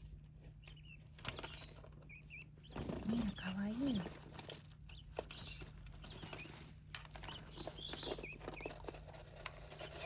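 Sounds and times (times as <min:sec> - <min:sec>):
beaks and claws tapping: 0:00.0 - 0:10.0
small birds chirping: 0:00.0 - 0:10.0.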